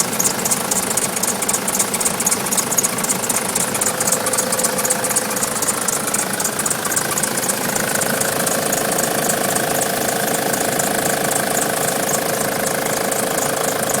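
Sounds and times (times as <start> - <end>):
diesel engine idling: 0.0 - 14.0
rhythmic high-pitched squeak: 0.0 - 14.0.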